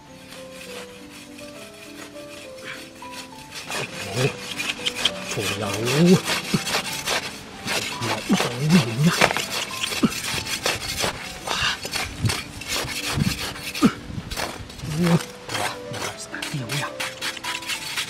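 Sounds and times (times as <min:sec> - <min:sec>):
hand scraping sandy soil: 0:00.0 - 0:18.0.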